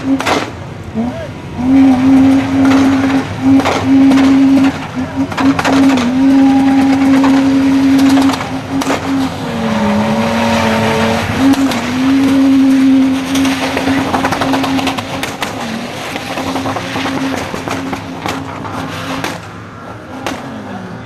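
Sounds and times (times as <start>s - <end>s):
car engine at high revs: 0.0s - 21.0s.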